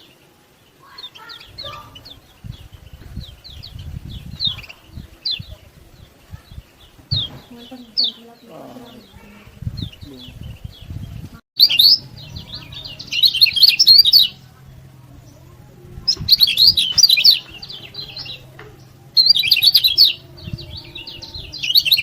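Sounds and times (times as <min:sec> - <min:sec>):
bird twittering chirps: 0:00.8 - 0:14.6, 0:15.2 - 0:22.0.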